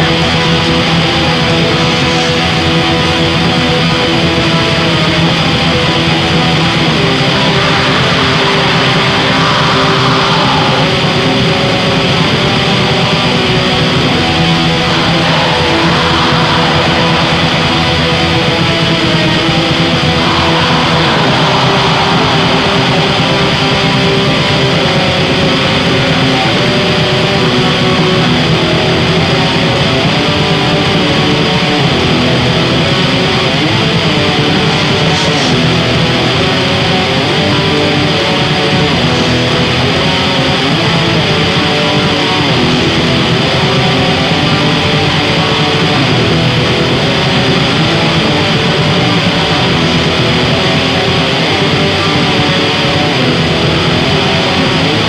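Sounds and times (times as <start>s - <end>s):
bass: 0.0s - 55.0s
distorted electric guitar: 0.0s - 55.0s
drums: 0.0s - 55.0s.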